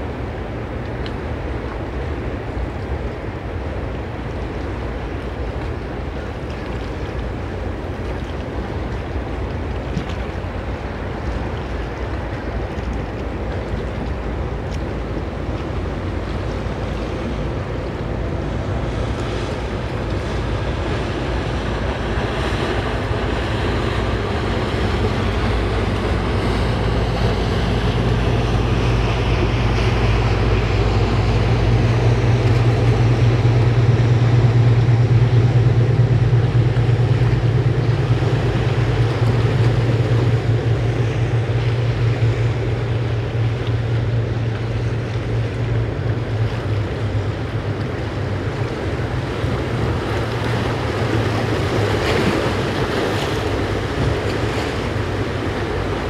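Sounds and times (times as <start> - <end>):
boat engines droning: 0.0 - 56.0
bow wave and wake hissing: 0.0 - 56.0.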